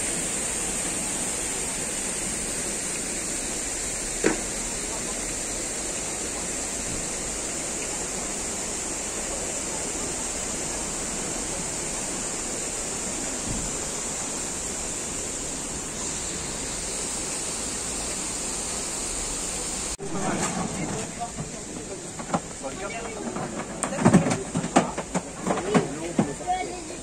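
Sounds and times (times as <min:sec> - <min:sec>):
fountain water splashing: 0:00.0 - 0:27.0.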